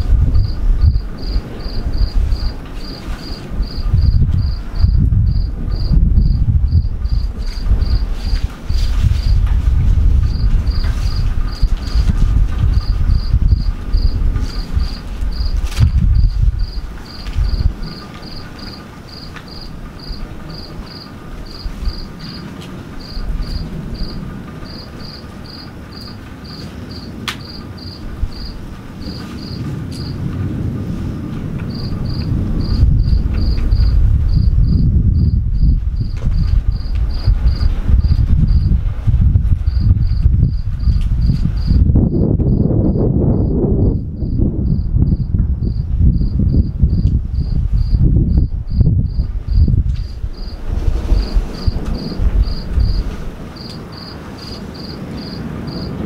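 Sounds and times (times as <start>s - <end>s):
cricket chirping: 0.0s - 9.5s, 10.2s - 38.8s, 39.6s - 56.0s
loud low rumble: 0.0s - 22.1s, 22.8s - 54.2s.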